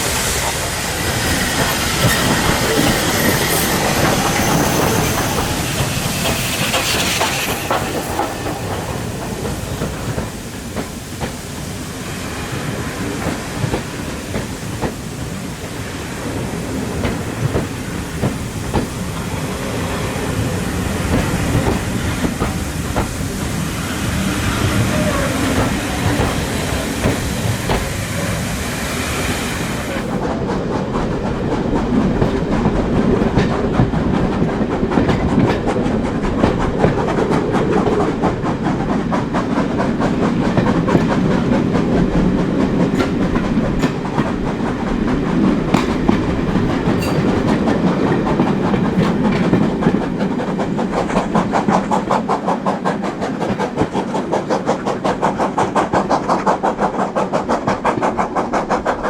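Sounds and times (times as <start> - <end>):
high steam hiss: 0.0 - 54.2
quick regular train beat: 0.0 - 59.0
train wheels rumbling on rail: 0.0 - 59.0.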